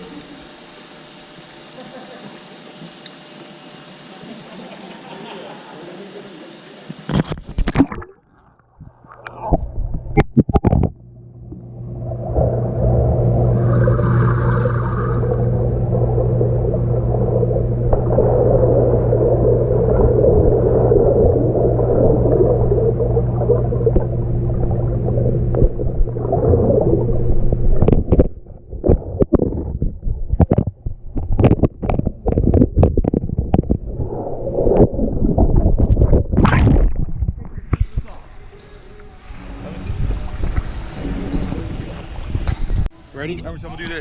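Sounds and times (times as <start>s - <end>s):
muffled underwater rumbling: 7.1s - 42.9s.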